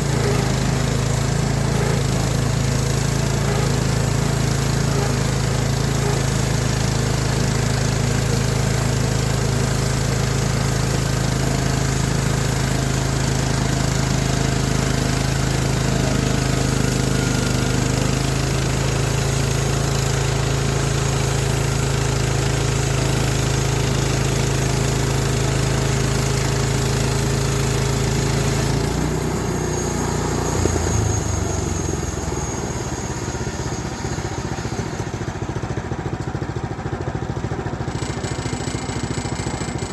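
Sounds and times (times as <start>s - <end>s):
sawmill petrol engine running: 0.0s - 39.9s.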